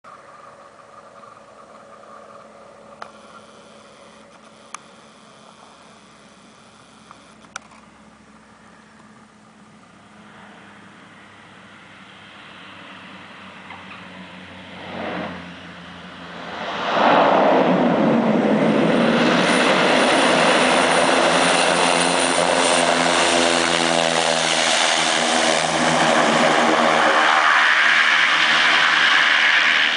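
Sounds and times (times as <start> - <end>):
turboprop aircraft engine: 0.1 - 29.9.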